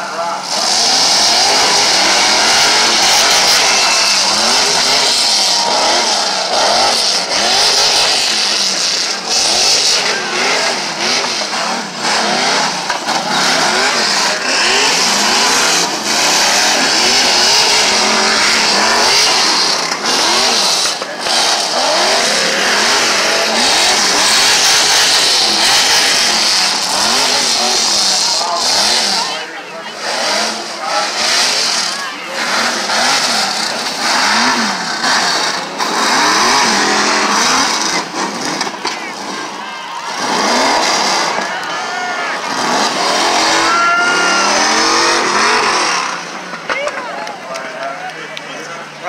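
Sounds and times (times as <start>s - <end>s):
truck engine revving hard: 0.0s - 49.0s.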